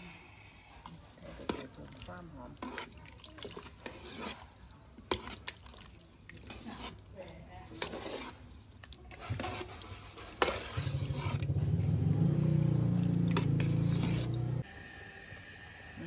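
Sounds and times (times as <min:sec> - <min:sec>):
crickets chirring: 0:00.0 - 0:16.0
thick liquid sloshing: 0:00.8 - 0:14.4.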